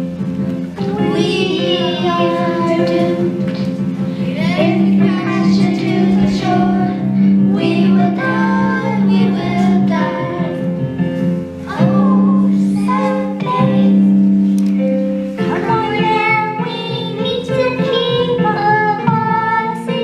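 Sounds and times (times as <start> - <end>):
instrumental accompaniment: 0.0 - 20.0
children singing opera: 0.8 - 10.8, 11.6 - 14.3, 15.4 - 20.0.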